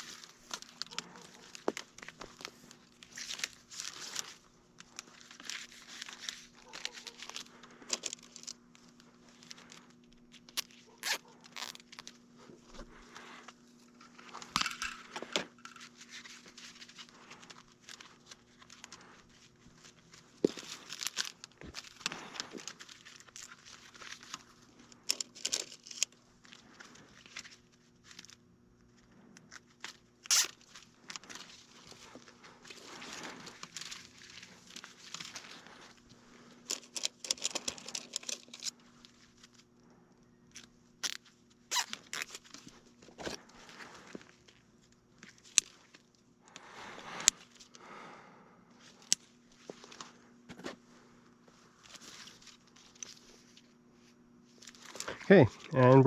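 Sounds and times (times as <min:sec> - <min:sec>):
faint steady hum: 0:00.0 - 0:56.0
rustling of cable: 0:00.0 - 0:56.0.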